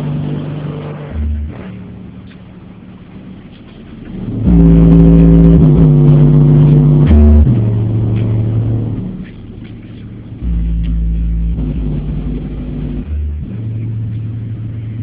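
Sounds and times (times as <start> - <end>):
bass-heavy music through car speakers: 0.0 - 15.0.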